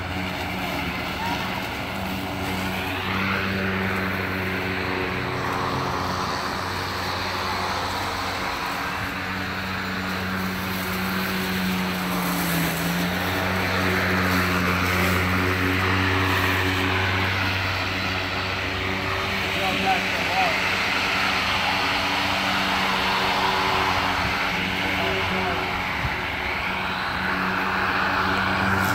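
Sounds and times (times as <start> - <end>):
electric lawn tool motor hum: 0.0 - 28.9.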